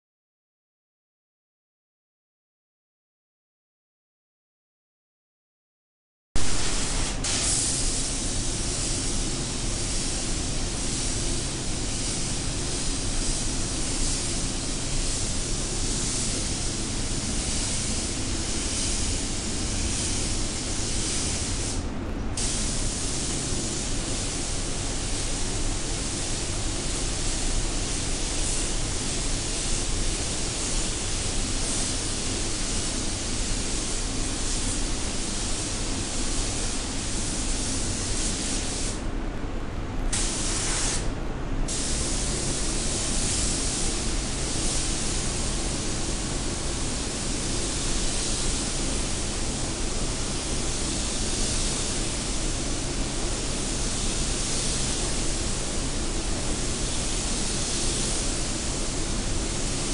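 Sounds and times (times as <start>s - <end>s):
spray gun hissing: 6.4s - 21.8s, 22.4s - 39.0s, 40.1s - 41.1s, 41.7s - 59.9s
steady low hum: 6.4s - 59.9s.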